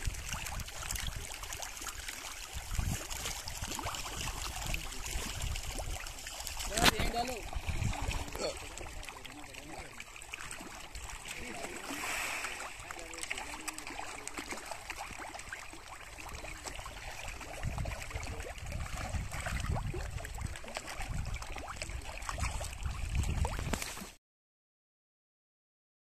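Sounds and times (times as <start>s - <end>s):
water splashing: 0.0s - 24.2s.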